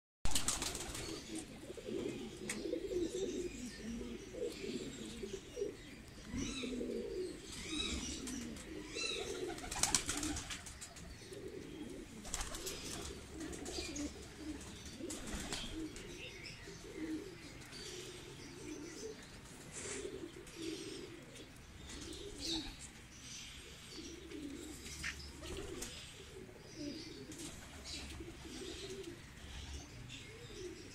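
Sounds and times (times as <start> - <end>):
pigeons cooing: 0.3 - 30.9.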